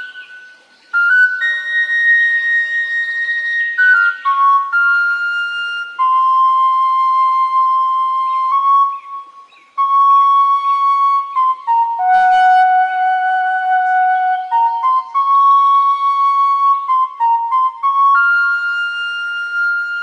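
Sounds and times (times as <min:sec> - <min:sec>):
slow flute melody: 0:00.0 - 0:20.0.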